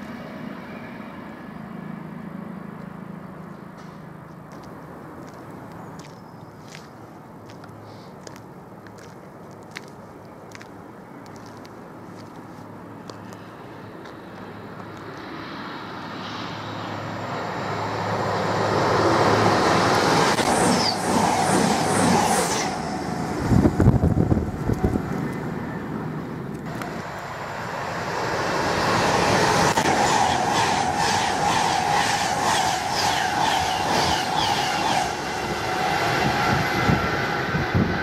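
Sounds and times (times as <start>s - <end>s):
train passing at speed: 0.0s - 38.0s.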